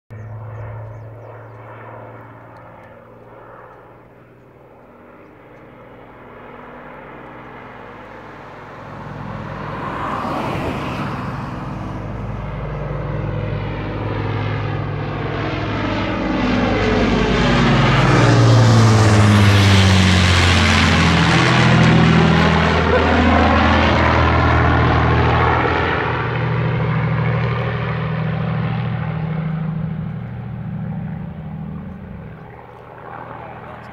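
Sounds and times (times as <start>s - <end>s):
propeller plane engines droning: 0.1s - 33.9s.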